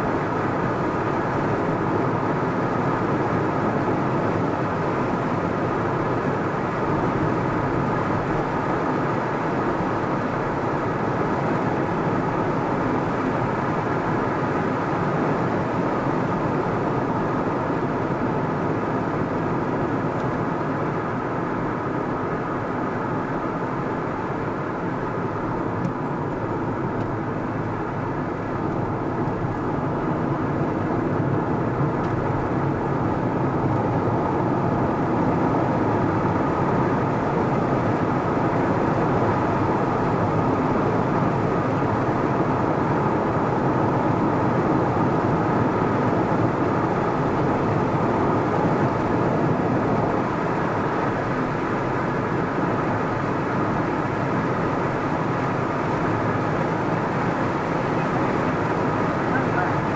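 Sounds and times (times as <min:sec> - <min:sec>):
car tyre and engine drone: 0:00.0 - 0:59.9.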